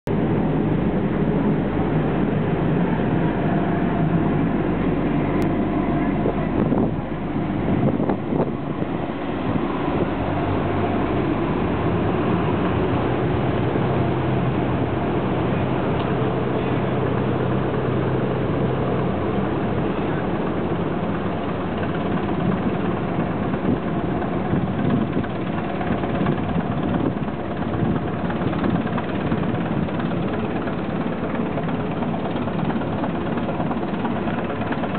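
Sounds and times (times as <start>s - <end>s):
ferry engines running: 0.1s - 34.9s.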